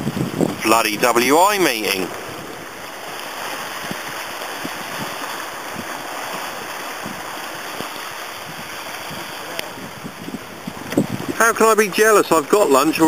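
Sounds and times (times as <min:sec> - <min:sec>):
hiss of wind and water: 0:00.0 - 0:13.0
water lapping against kayak: 0:00.0 - 0:13.0.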